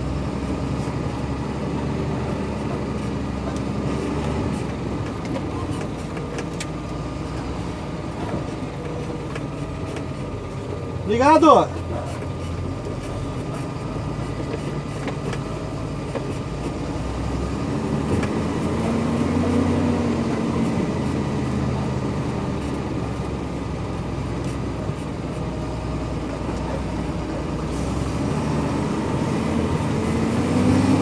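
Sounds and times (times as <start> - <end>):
truck diesel engine driving: 0.0 - 31.0.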